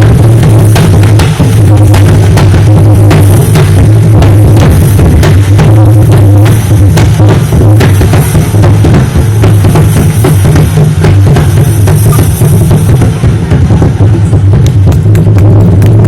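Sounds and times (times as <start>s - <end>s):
clay hand drum playing fast: 0.0s - 16.0s.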